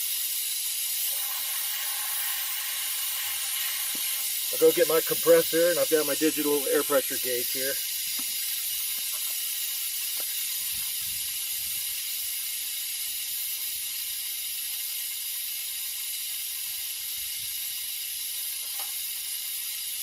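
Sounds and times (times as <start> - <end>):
air hissing from tire valve: 0.0 - 20.0.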